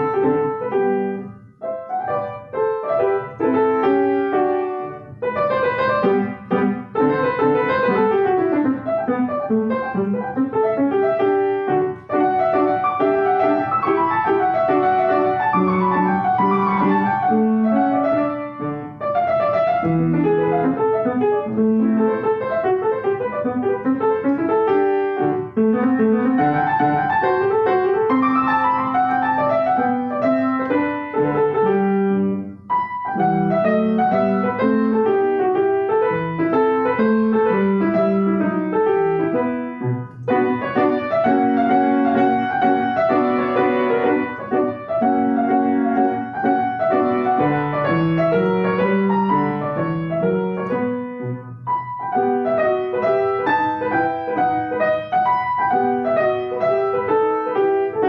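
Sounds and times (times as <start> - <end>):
solo piano classical piece: 0.0 - 58.0.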